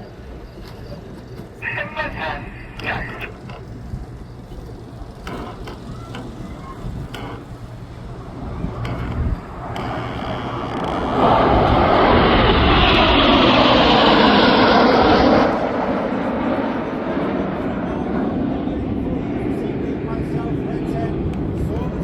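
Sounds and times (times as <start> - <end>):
jets roaring past: 1.6 - 22.0.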